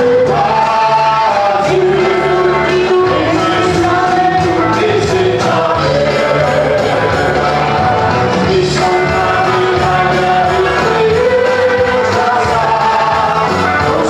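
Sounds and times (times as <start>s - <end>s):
congregation singing with band: 0.0s - 14.0s.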